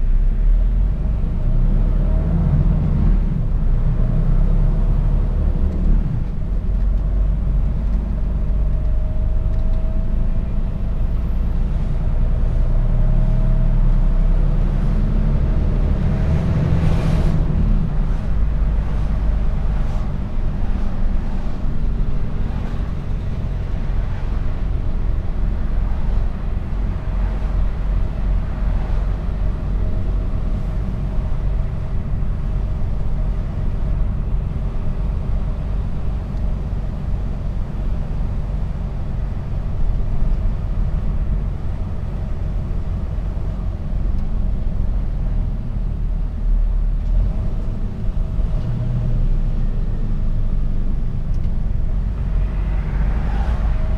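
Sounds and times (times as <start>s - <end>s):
diesel truck engine: 0.0s - 53.9s
road rumble: 0.0s - 53.9s.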